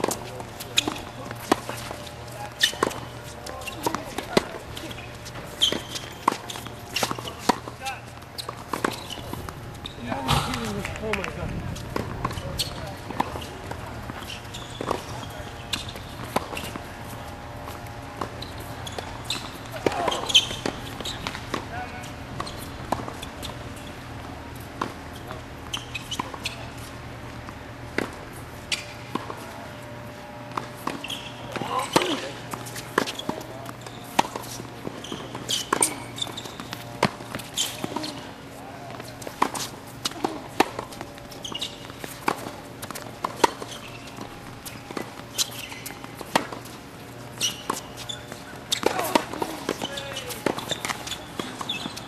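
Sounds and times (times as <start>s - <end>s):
tennis ball bouncing on court: 0.0s - 38.3s, 38.9s - 52.0s.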